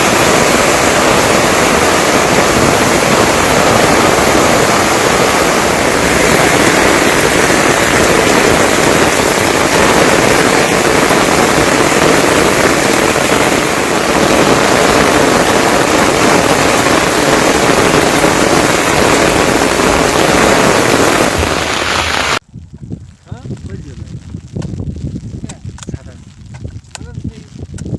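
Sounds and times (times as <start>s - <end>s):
rush of falling water: 0.0s - 22.4s.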